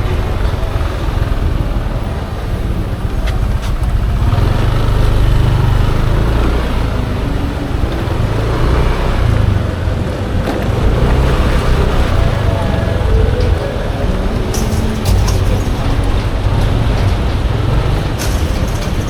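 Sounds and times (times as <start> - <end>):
road noise rumble: 0.0 - 19.0
scooter engine running: 0.0 - 19.0.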